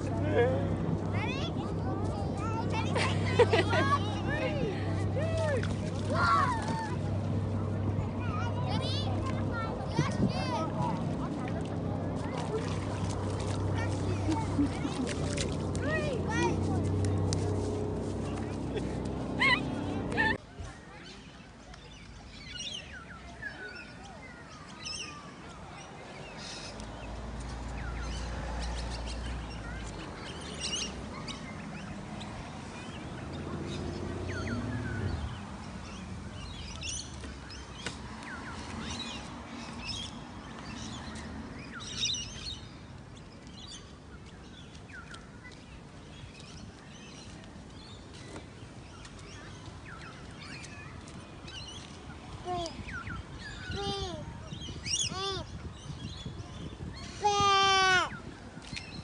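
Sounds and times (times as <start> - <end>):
birds chirping: 7.5 - 59.0.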